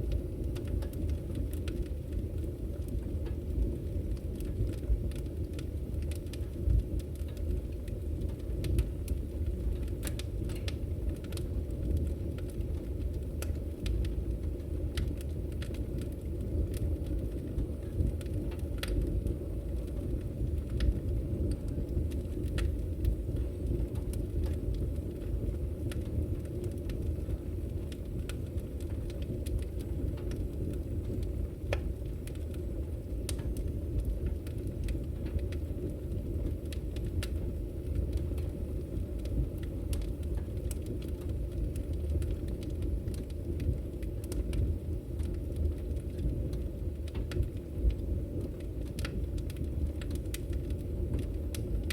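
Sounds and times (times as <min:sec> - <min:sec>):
fire crackling and popping: 0:00.0 - 0:51.9
wood fire low rumble: 0:00.0 - 0:51.9.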